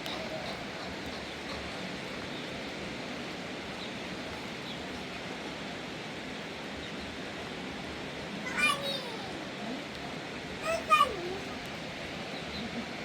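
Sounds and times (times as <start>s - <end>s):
rushing rain or water: 0.0s - 13.0s.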